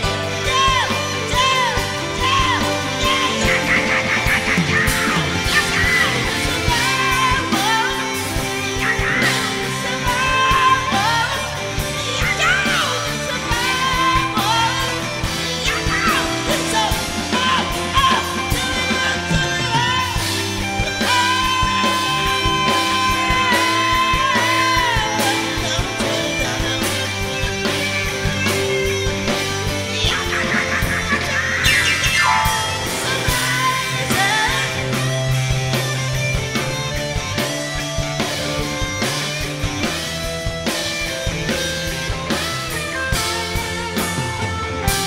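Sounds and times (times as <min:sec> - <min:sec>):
lead vocalist singing: 0:00.0 - 0:45.0
live rock band playing: 0:00.0 - 0:45.0.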